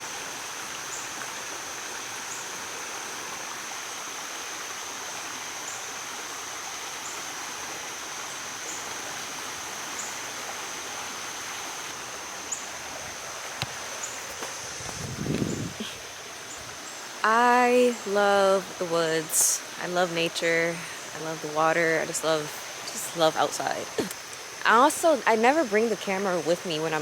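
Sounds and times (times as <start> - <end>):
rush of running water: 0.0 - 27.0.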